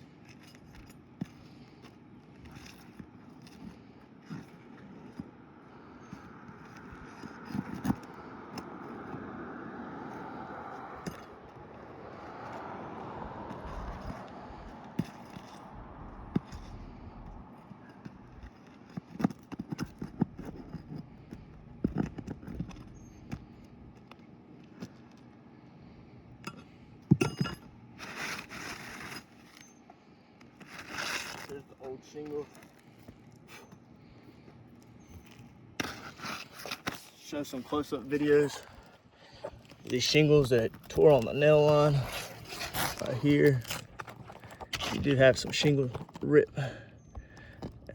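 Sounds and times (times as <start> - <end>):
shingle rustling scrape: 0.0 - 9.4, 10.0 - 26.0, 27.7 - 47.9.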